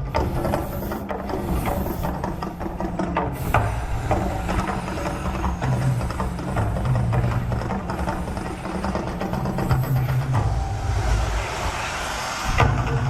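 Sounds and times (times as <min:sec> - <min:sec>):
bursts of hiss: 0:00.0 - 0:13.0
low rumble with crackling: 0:00.0 - 0:13.0.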